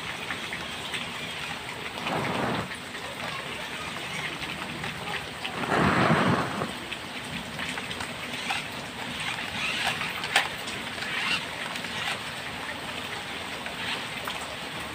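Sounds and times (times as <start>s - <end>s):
rain patter: 0.0s - 14.9s
toy car motor on wet concrete: 0.0s - 14.9s.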